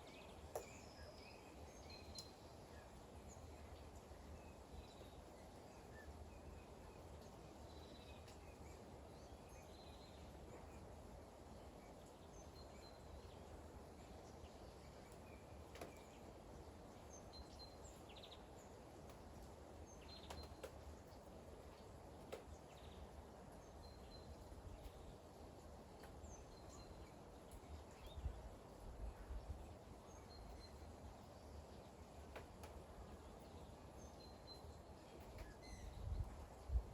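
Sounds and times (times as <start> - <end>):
light rain: 0.0 - 36.9.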